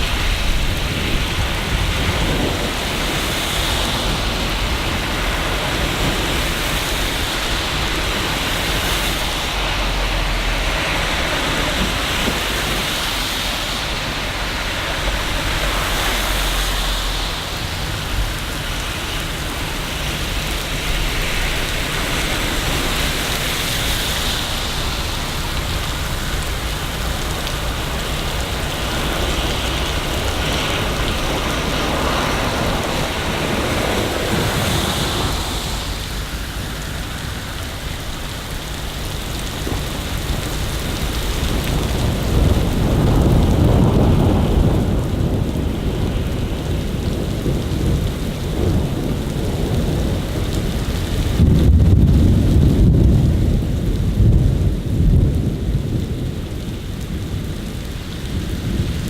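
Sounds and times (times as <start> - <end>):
steady rain hissing: 0.0 - 59.0
thunder rumbling: 0.0 - 59.0.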